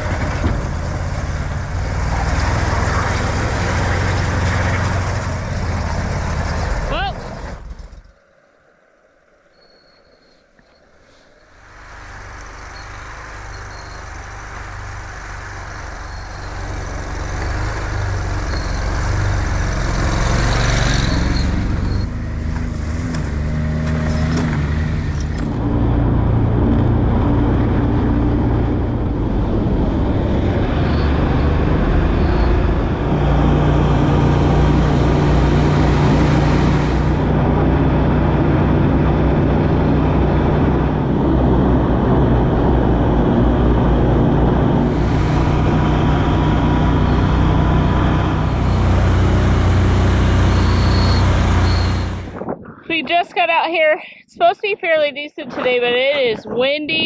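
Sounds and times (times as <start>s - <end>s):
vehicle engine running: 0.0s - 8.2s, 11.5s - 53.3s.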